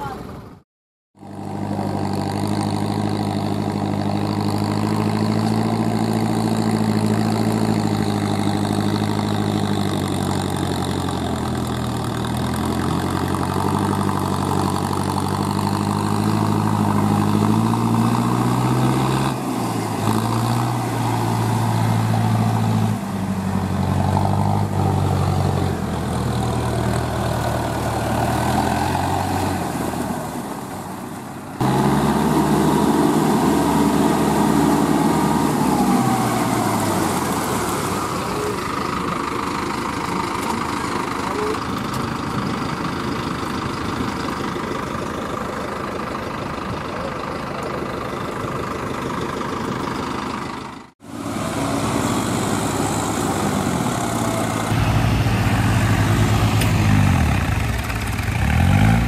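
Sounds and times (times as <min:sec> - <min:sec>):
tractor engine running under load: 0:01.2 - 0:59.0.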